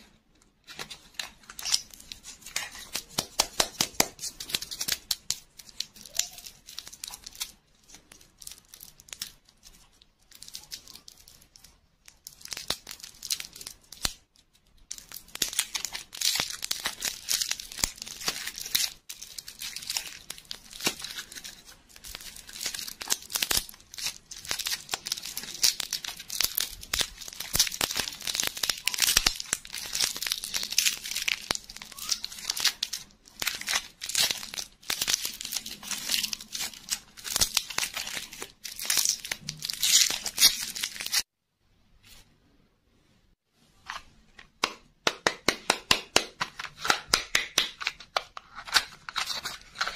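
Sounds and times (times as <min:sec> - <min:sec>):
plastic wrapper crinkling: 0:00.6 - 0:41.3, 0:46.5 - 0:49.9.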